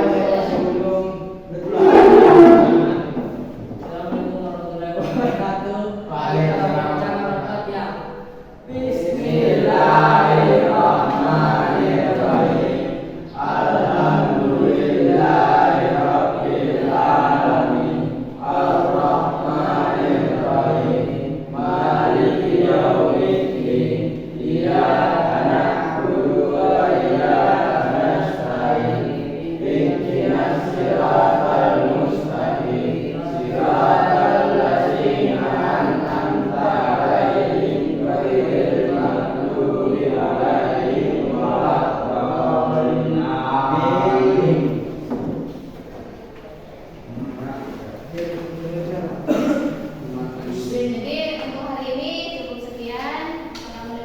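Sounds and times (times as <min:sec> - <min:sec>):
students chanting in unison: 0:00.0 - 0:45.8, 0:47.1 - 0:52.0.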